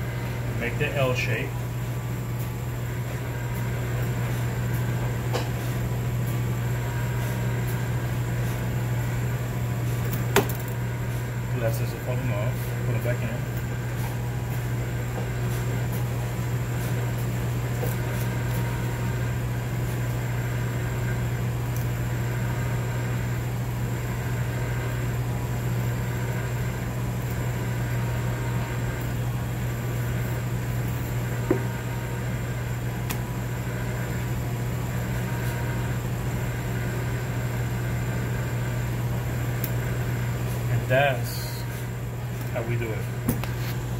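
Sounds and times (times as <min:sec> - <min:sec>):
kitchen machinery humming: 0:00.0 - 0:43.9.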